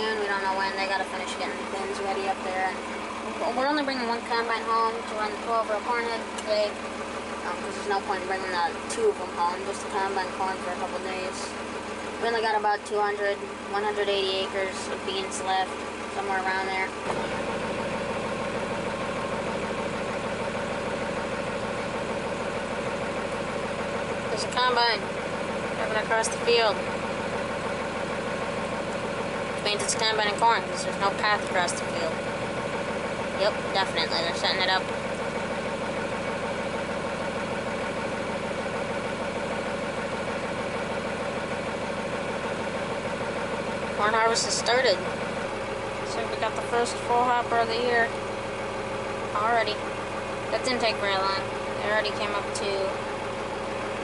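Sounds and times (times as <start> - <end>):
steady whine: 0.0 - 54.0
tractor diesel engine running: 0.0 - 54.0.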